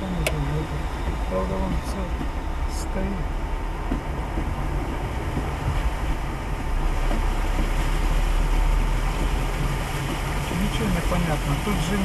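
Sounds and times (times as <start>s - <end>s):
car cabin rumble with hiss: 0.0s - 12.0s.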